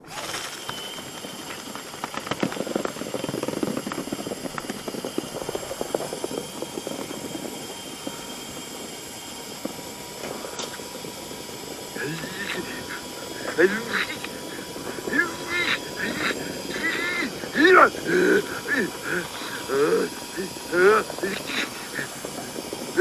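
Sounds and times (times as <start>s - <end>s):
cleaning equipment running: 0.0s - 23.0s
faint high whine: 0.0s - 23.0s.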